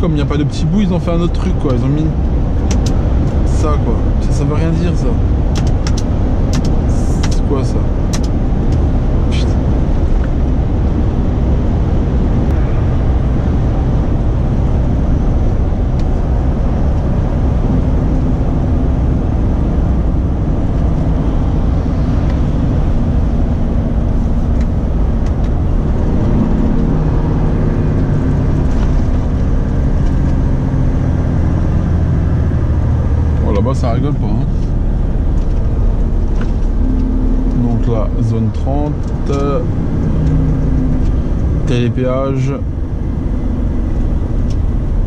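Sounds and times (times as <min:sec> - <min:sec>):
diesel engine drone: 0:00.0 - 0:45.0
tyre and road noise: 0:00.0 - 0:45.0.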